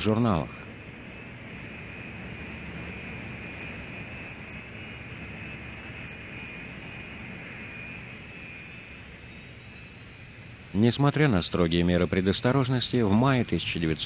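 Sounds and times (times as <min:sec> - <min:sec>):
high turbine whine: 0:00.0 - 0:14.0
jet engines rushing hiss: 0:00.0 - 0:14.0.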